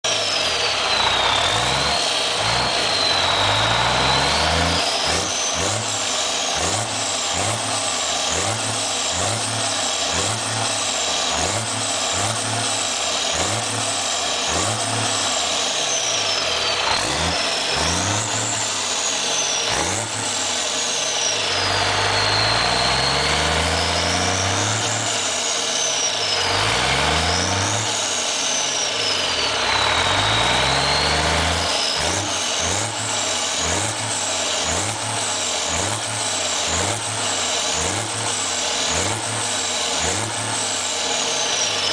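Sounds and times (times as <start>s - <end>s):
diesel engine revving: 0.0s - 41.9s
high turbo whistle: 0.1s - 41.9s.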